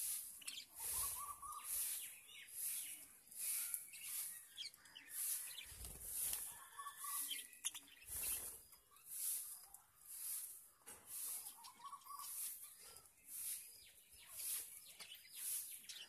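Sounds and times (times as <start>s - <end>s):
budgerigars chirping and chattering: 0.0s - 9.4s, 11.1s - 16.0s.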